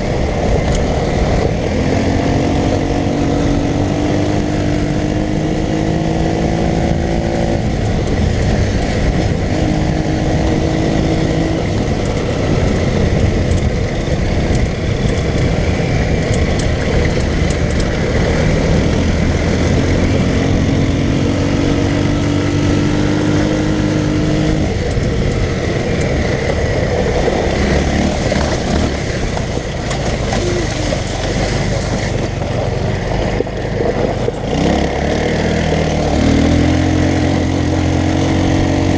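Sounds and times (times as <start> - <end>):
go-kart engine accelerating: 0.0 - 38.9.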